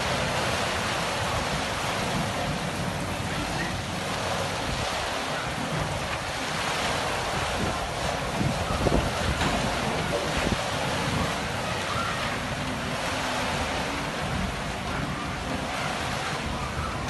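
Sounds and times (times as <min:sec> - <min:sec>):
heavy rain falling: 0:00.0 - 0:17.0
wind buffeting microphone: 0:00.0 - 0:17.0.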